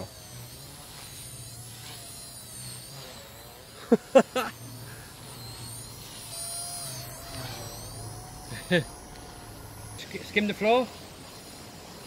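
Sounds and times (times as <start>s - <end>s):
rc helicopter whining hum: 0.0s - 12.0s.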